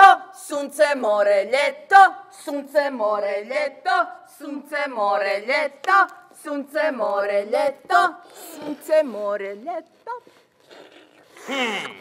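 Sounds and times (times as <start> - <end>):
person singing in character voices: 0.0 - 10.4.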